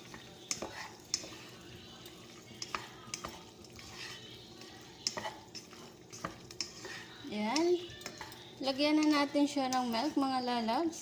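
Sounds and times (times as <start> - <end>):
spatula scraping pot: 0.0 - 11.0.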